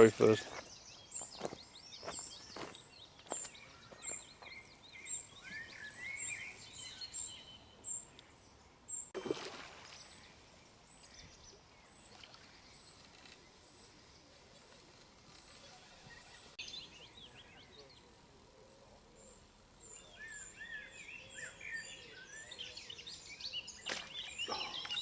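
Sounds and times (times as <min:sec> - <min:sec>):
birds singing and chirping: 0:00.0 - 0:09.2, 0:09.9 - 0:25.0.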